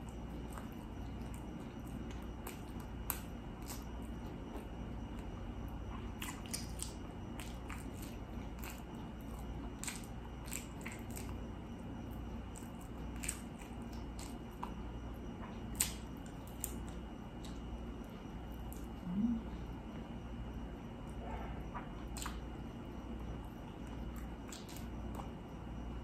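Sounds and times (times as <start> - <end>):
wet chewing and mouth clicks: 0.0 - 19.0, 21.7 - 22.5, 23.3 - 25.4
low steady hum: 0.0 - 26.0.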